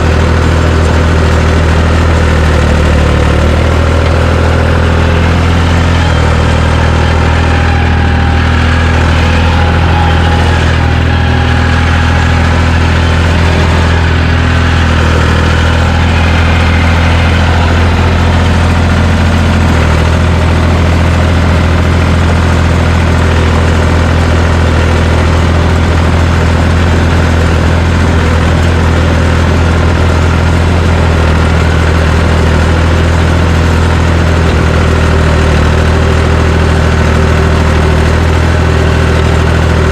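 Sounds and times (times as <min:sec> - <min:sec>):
bulldozer engine running: 0:00.0 - 0:39.9.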